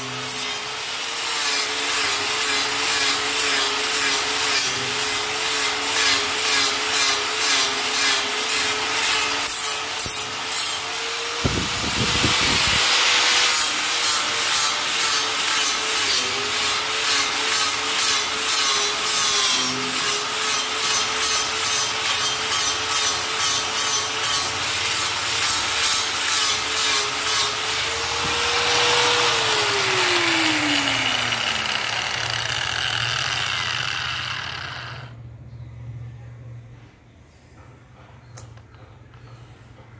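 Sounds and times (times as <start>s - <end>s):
angle grinder grinding steel: 0.0s - 35.2s.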